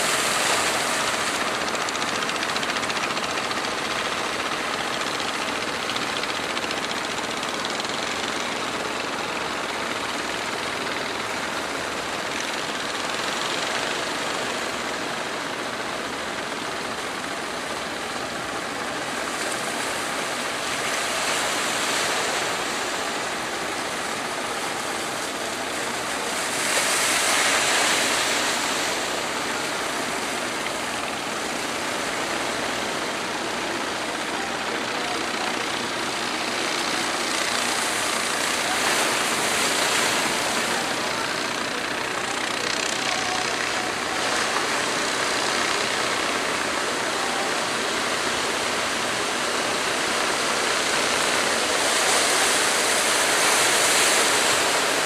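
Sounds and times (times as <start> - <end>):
rough sea surf: 0.0 - 55.0
wind: 0.0 - 55.0.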